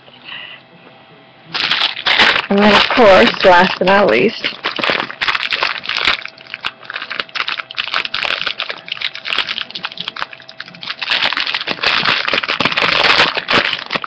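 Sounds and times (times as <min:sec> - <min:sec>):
packaging rustling and crackling: 0:01.5 - 0:14.0.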